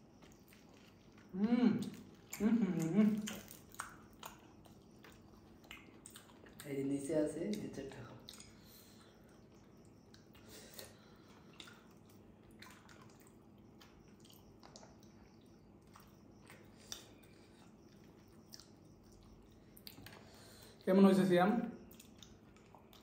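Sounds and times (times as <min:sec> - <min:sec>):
faint chewing: 0:00.0 - 0:20.8, 0:21.8 - 0:23.0.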